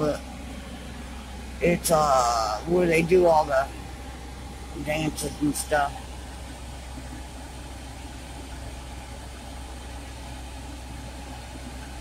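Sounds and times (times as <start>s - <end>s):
car engine humming: 0.0s - 12.0s
road noise inside car: 0.0s - 12.0s.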